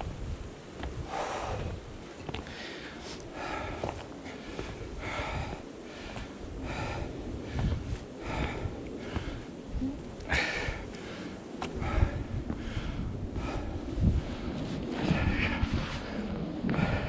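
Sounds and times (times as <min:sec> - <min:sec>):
low rumble: 0:00.8 - 0:17.0
person breathing hard: 0:01.0 - 0:17.0.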